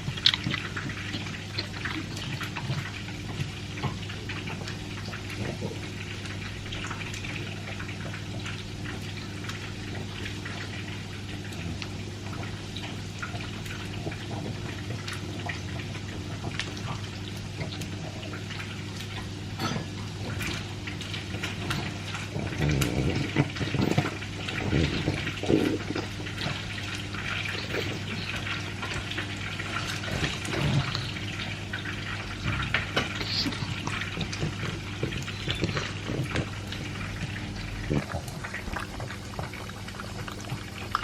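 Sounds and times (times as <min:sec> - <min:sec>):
dog chewing and crunching food: 0:00.0 - 0:08.3, 0:13.2 - 0:41.0.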